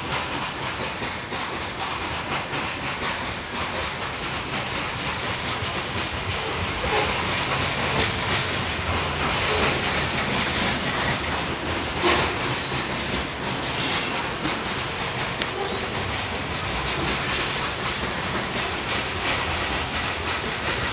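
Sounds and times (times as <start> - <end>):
freight train cars rolling past: 0.0 - 20.9
wheels clicking over rail joints: 0.0 - 20.9.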